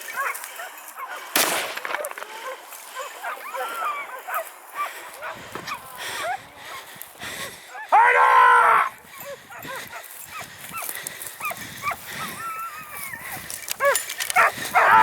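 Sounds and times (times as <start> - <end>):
hounds baying and yelping: 0.0 - 15.0.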